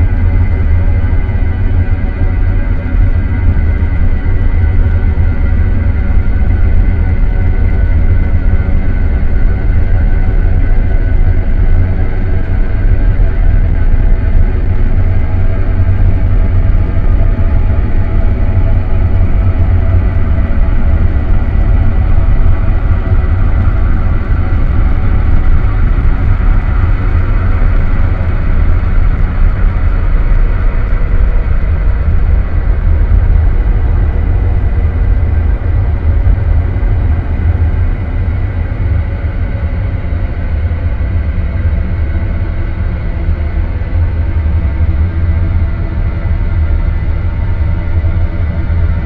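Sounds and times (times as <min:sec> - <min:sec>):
deep rumble: 0:00.0 - 0:49.0
sustained drone tones: 0:00.0 - 0:49.0.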